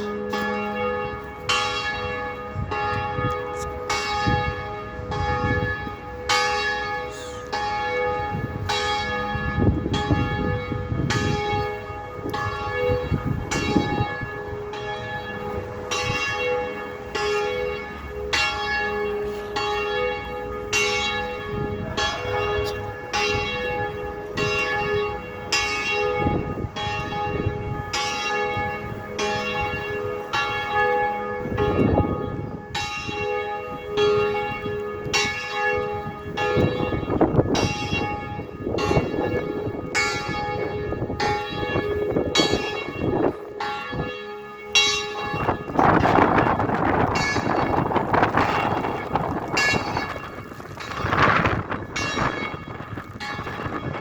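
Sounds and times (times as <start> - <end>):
wind rumbling on microphone: 0.0 - 44.2, 44.8 - 54.0
bells ringing: 0.0 - 54.0.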